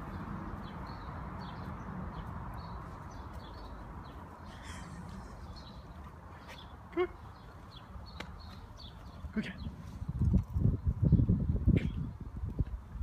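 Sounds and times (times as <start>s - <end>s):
small birds chirping: 0.0s - 12.7s.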